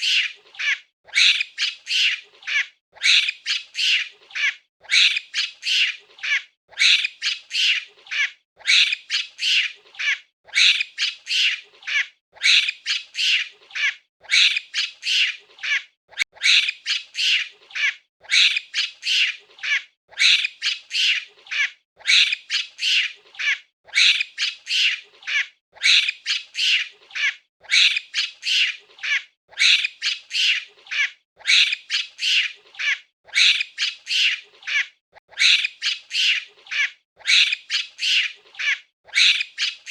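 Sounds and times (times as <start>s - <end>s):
monkey squawking calls: 0.0s - 39.9s.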